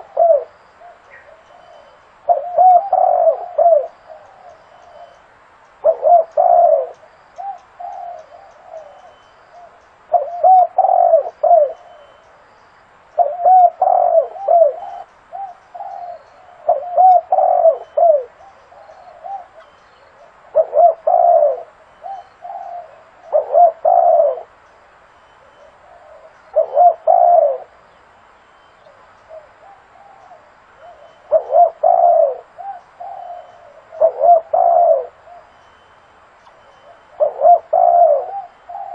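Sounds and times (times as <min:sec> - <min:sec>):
dove cooing: 0:00.0 - 0:12.3, 0:13.1 - 0:24.6, 0:25.4 - 0:27.8, 0:28.8 - 0:35.8, 0:36.4 - 0:38.9.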